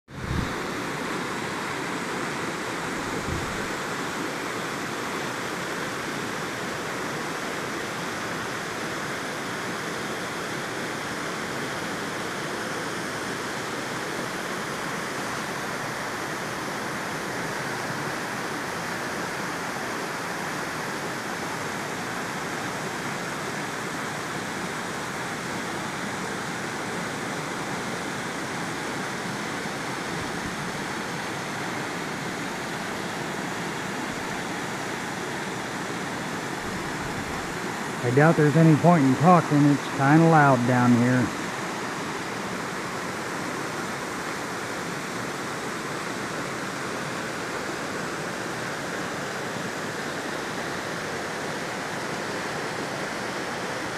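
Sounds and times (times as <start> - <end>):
waterfall rushing: 0.1 - 53.9.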